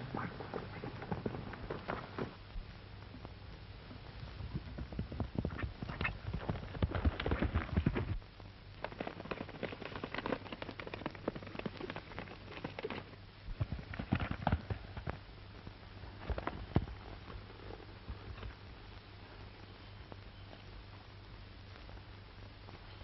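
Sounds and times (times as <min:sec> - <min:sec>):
horse hooves galloping on dirt: 0:00.0 - 0:02.4, 0:04.0 - 0:20.9.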